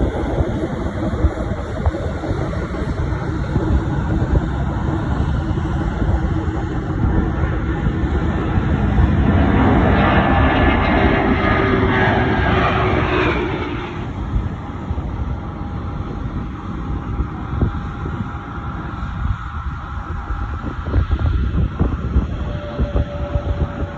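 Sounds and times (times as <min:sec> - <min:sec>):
jet airliner passing overhead: 0:00.0 - 0:23.9
steady low rumble: 0:00.0 - 0:23.9.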